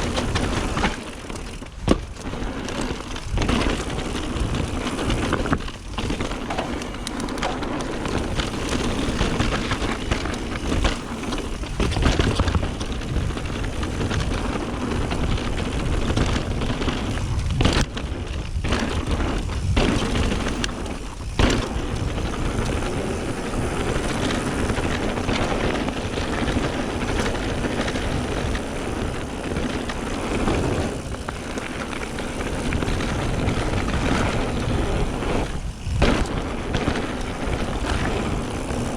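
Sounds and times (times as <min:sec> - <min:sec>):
bike rattling and knocking: 0:00.0 - 0:38.9
bike tyres on dirt: 0:00.0 - 0:38.9.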